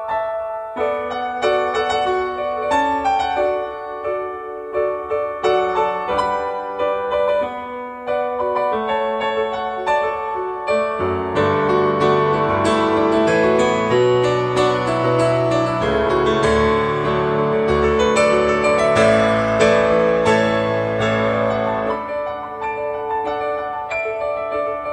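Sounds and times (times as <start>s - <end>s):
gentle piano music: 0.0s - 24.9s.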